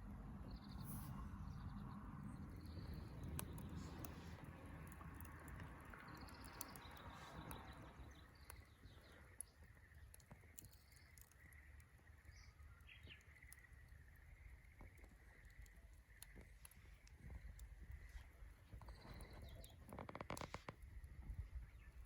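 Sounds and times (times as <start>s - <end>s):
wood fire crackling: 0.1s - 22.0s
birds chirping: 0.4s - 22.0s.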